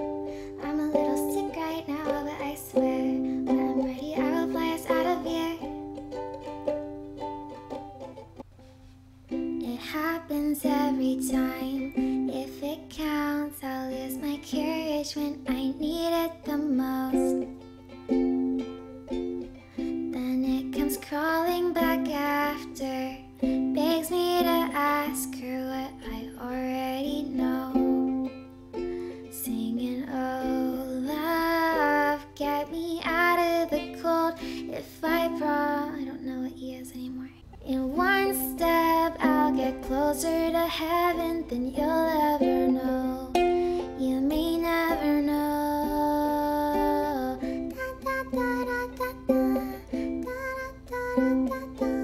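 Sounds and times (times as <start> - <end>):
person singing: 0.0 - 5.8, 9.5 - 18.7, 19.4 - 52.0
ukulele playing: 0.0 - 52.0.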